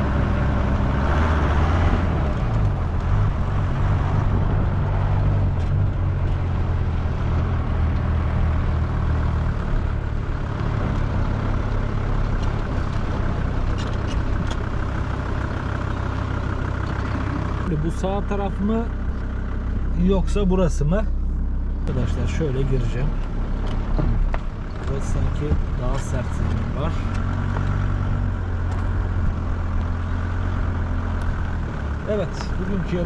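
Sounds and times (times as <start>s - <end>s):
engine running at low speed: 0.0s - 33.0s
tyres rustling on dirt track: 0.0s - 33.0s.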